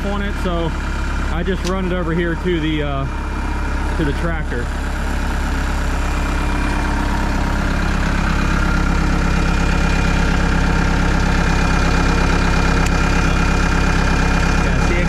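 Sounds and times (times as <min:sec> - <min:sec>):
electric transfer pump running: 0:00.0 - 0:15.0
machine engine idling: 0:00.0 - 0:15.0.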